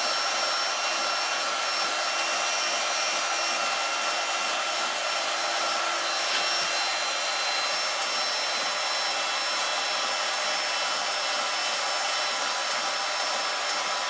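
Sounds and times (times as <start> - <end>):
steady whirring: 0.0 - 14.0.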